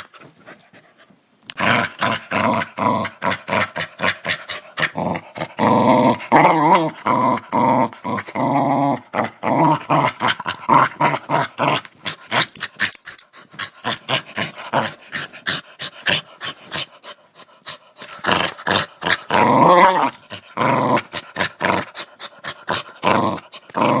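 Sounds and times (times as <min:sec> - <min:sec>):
dog growling: 0:01.6 - 0:24.0.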